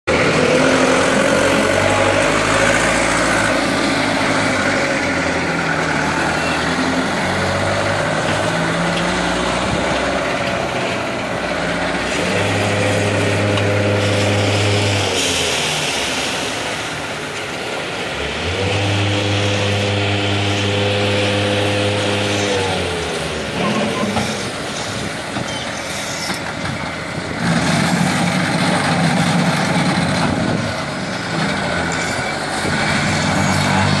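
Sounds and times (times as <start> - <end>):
forklift engine running: 0.1 - 34.0.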